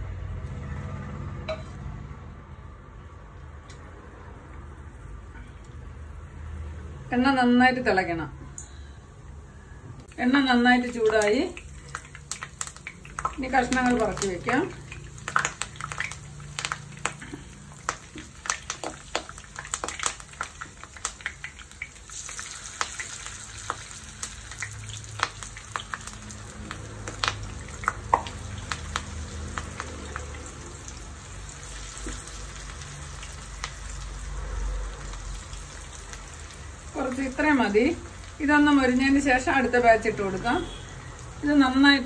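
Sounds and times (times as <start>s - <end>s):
chicken deep-frying in oil: 3.4s - 42.0s.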